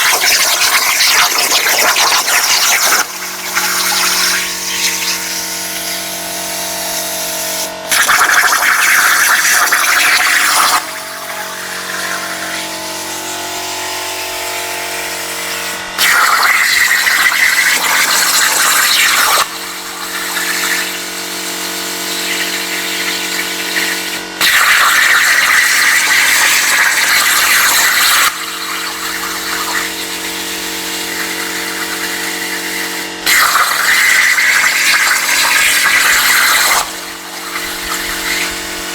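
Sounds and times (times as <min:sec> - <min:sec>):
plasma cutter arc hissing: 0:00.0 - 0:13.2, 0:16.0 - 0:38.9.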